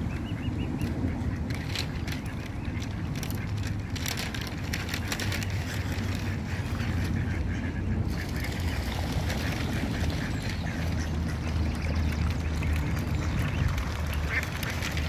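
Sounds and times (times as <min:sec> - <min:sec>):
ducks quacking: 0:00.0 - 0:04.2, 0:04.8 - 0:15.0
steady low rumble: 0:00.0 - 0:15.0.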